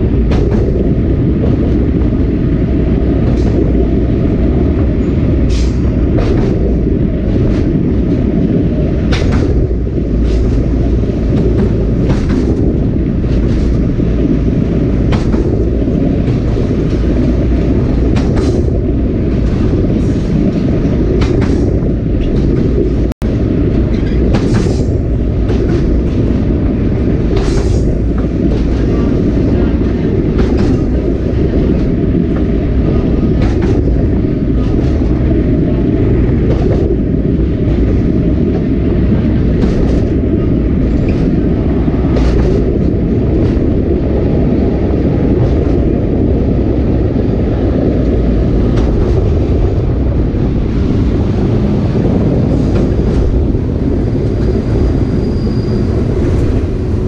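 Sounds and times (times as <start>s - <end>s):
train car rumbling along track: 0.0s - 57.0s
wheels clicking on rails: 0.0s - 57.0s.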